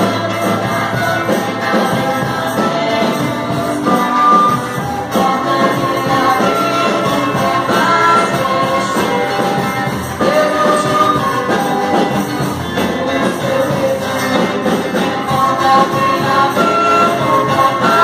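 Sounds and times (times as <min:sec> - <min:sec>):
group of voices singing: 0:00.0 - 0:18.0
instrumental accompaniment: 0:00.0 - 0:18.0.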